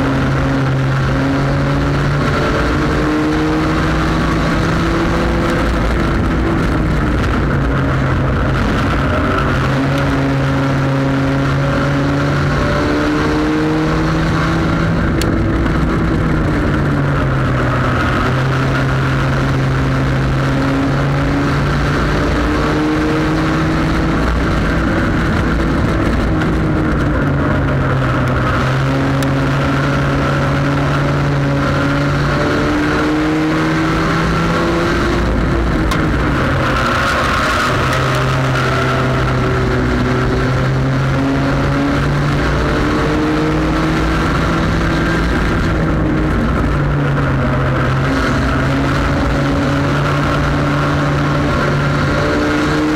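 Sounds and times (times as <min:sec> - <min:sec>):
race car engine revving: 0:00.0 - 0:52.9
wind and road noise: 0:00.0 - 0:52.9.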